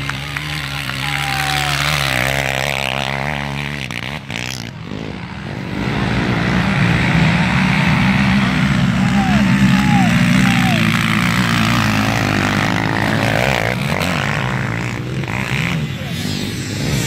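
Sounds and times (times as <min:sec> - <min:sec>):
quad engines under load: 0:00.0 - 0:17.0.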